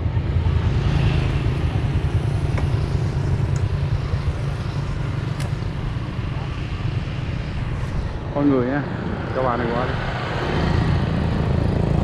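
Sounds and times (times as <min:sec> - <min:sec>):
motorbike engine rumbling: 0:00.0 - 0:12.0.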